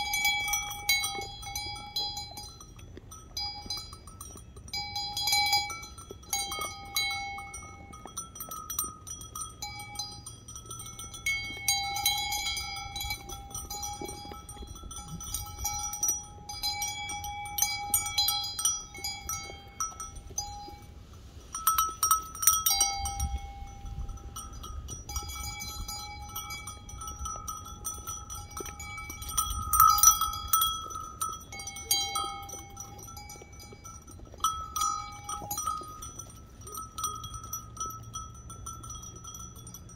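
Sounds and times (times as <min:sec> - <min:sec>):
sheep bell ringing: 0:00.0 - 0:39.9
sheep chewing corn: 0:00.0 - 0:39.9.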